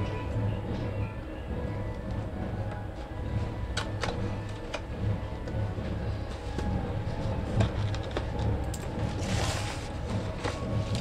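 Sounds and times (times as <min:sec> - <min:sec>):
faint background music: 0:00.0 - 0:11.0
low rumble: 0:00.0 - 0:11.0.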